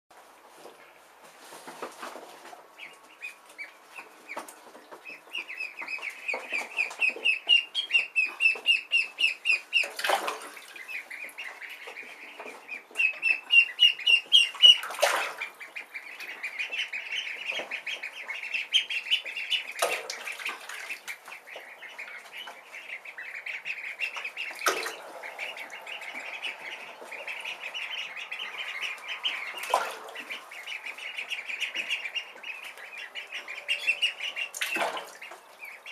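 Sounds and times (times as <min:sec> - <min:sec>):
ducklings peeping: 0:00.2 - 0:35.9.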